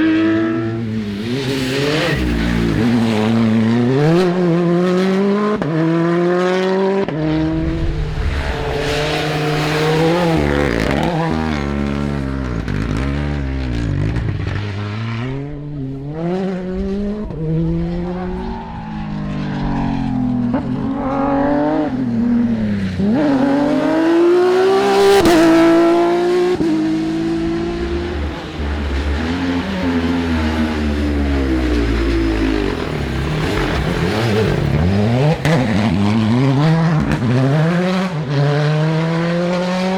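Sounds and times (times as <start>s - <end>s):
cars passing by close: 0.0s - 39.9s
rally car engines revving: 0.0s - 39.9s.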